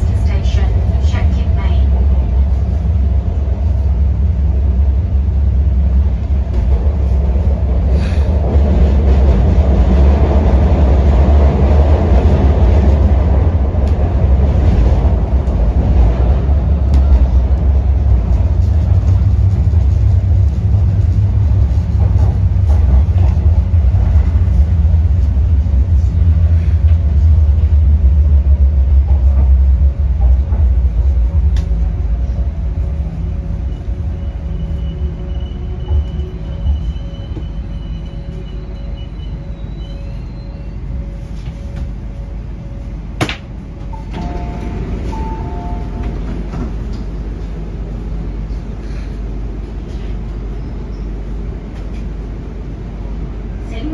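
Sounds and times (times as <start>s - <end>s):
train rumbling through tunnel: 0.0s - 53.9s.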